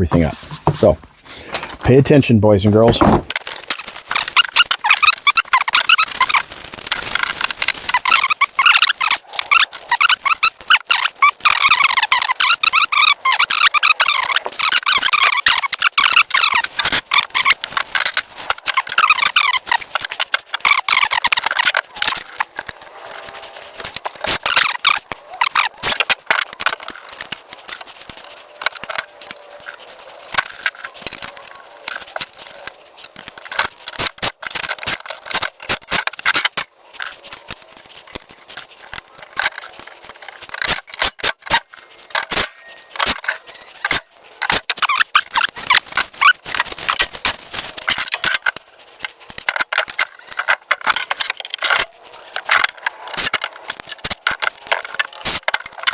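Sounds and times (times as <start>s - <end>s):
clicks clinks and rattles of parts: 3.2s - 55.9s.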